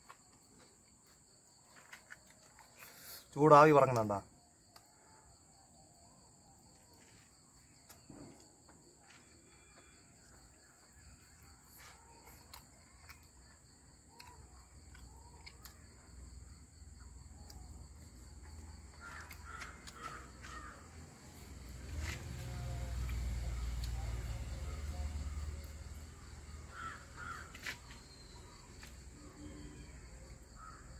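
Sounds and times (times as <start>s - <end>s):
crickets chirring: 0.0s - 30.9s.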